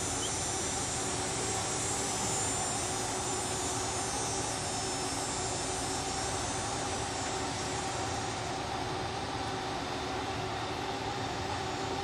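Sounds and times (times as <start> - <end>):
faint steady tones: 0.0 - 12.0
steady mechanical roar: 0.0 - 12.0.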